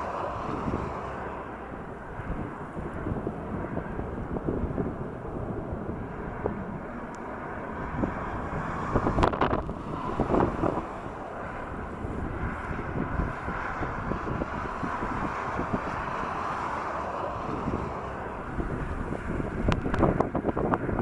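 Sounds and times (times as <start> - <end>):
jet aircraft rumble: 0.0 - 21.0
wind buffeting microphone: 0.0 - 21.0.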